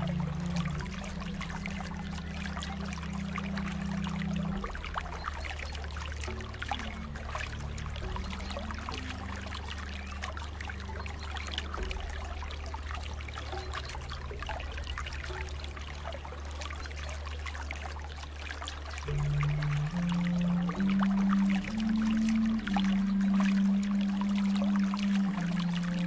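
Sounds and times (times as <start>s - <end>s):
water trickling and splashing: 0.0s - 26.0s.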